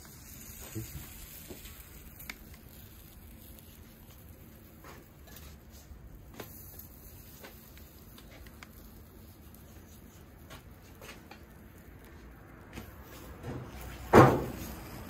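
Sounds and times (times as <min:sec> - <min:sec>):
piping bag squishing: 0:00.0 - 0:15.0.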